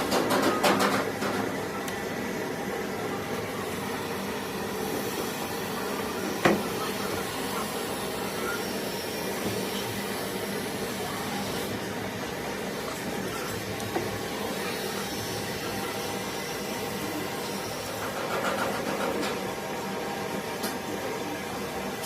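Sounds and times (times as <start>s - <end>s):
mechanical hum with hiss: 0.0s - 22.0s.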